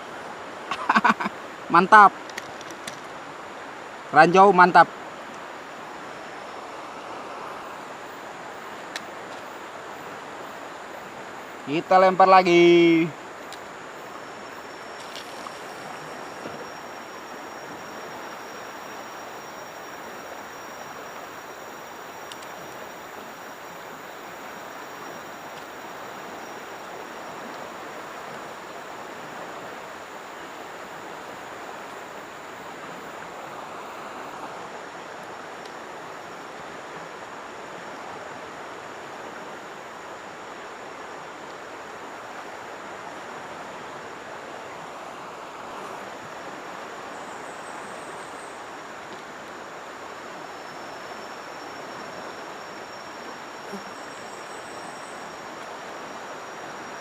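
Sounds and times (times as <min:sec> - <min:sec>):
river water rushing: 0:00.0 - 0:57.0
faint high whine: 0:02.8 - 0:57.0.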